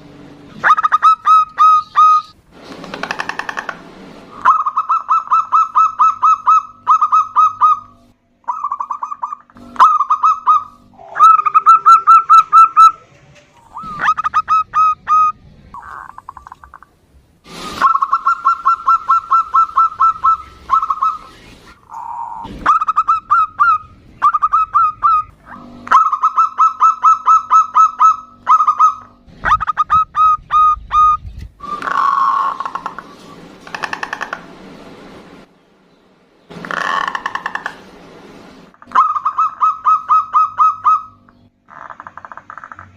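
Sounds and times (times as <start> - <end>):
doves cooing: 0.6 - 16.8, 17.8 - 34.6, 36.5 - 37.8, 38.8 - 42.9
rough buzzy bird call: 0.6 - 16.8, 17.5 - 34.5, 36.5 - 37.9.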